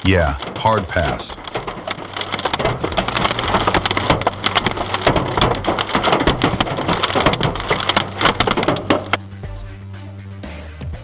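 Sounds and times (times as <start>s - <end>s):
hail pelting a car: 0.0s - 9.2s
low steady hum: 0.0s - 9.2s.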